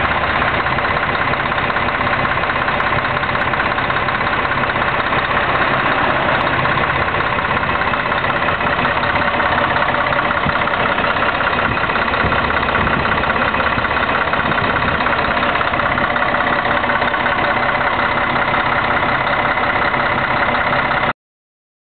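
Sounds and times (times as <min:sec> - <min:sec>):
bus diesel engine idling: 0:00.0 - 0:21.2.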